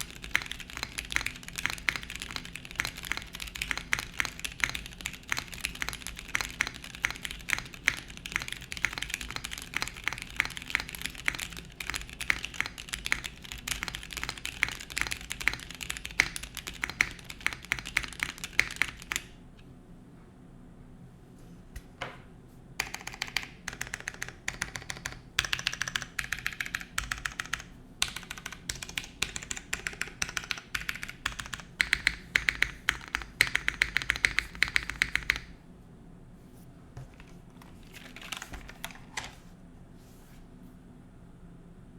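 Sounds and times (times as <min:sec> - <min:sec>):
mechanical keyboard typing: 0:00.0 - 0:19.3, 0:22.8 - 0:35.5, 0:37.1 - 0:39.4.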